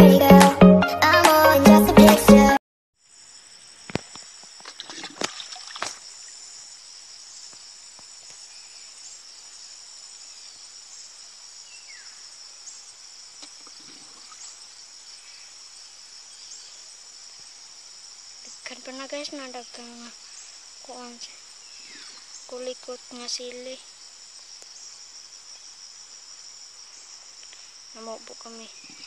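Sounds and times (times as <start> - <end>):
insect chorus: 3.0 - 29.0.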